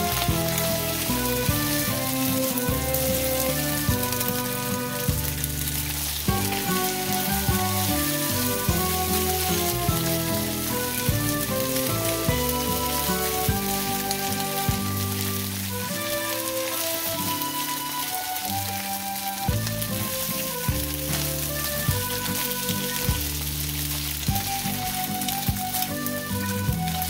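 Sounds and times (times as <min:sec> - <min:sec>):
background music with bass line: 0:00.0 - 0:27.0
eggs sizzling in a pan: 0:00.0 - 0:27.0.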